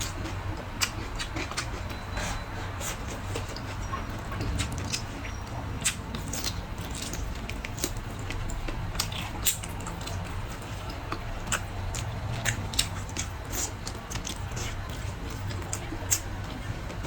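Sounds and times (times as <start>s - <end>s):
steady low hum: 0.0s - 17.0s
wet chewing smacks and clicks: 0.0s - 17.0s.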